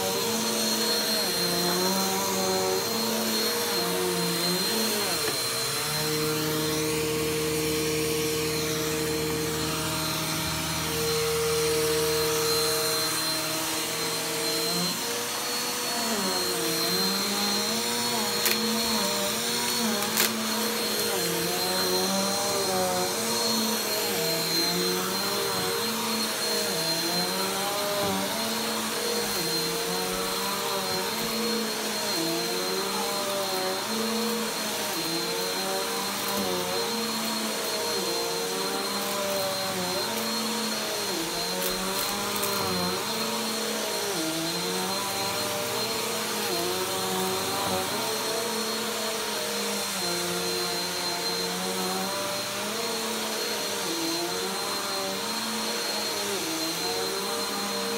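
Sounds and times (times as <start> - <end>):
vacuum cleaner running on carpet: 0.0 - 57.9.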